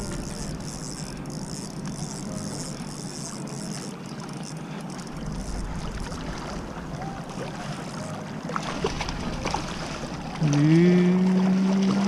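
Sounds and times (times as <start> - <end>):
river water: 0.0 - 12.0
wind: 0.0 - 12.0.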